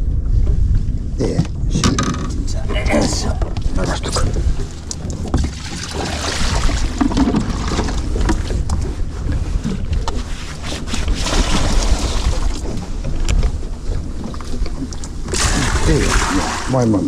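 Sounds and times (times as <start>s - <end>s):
steady low rumble: 0.0s - 17.0s
water noise: 0.0s - 17.0s
wind buffeting microphone: 0.0s - 17.0s.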